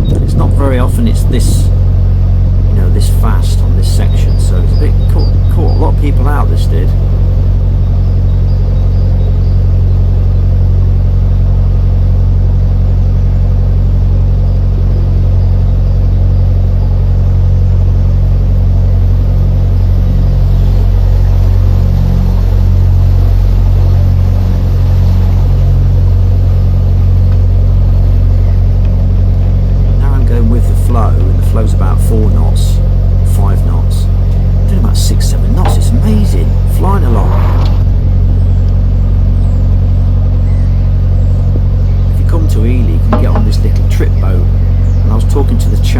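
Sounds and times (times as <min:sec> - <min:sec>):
diesel boat engine droning: 0:00.0 - 0:45.9.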